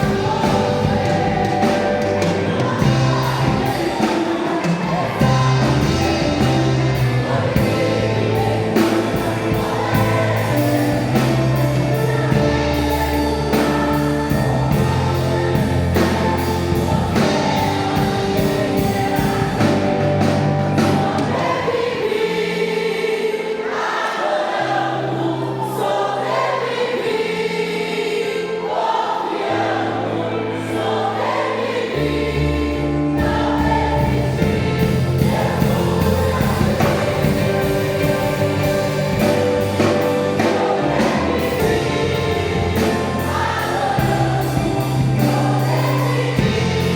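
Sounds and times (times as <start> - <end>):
instrumental accompaniment: 0.0 - 23.1, 25.9 - 46.9
church choir singing a hymn: 0.0 - 46.9.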